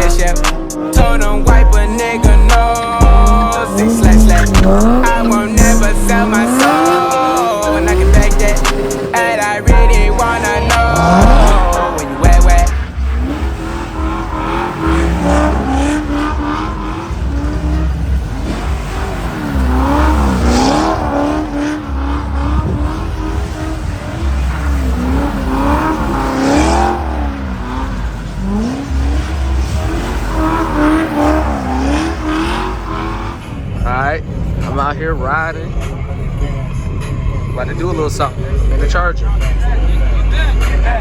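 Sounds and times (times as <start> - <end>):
car engine revving: 0.0 - 41.0
tires squealing: 0.0 - 41.0.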